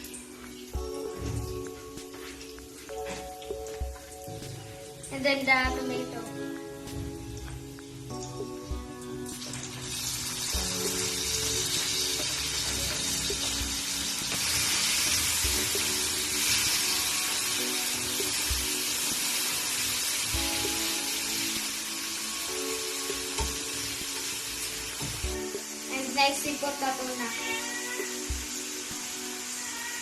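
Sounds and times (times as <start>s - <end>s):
background music: 0.0s - 30.0s
food sizzling in oil: 0.0s - 30.0s.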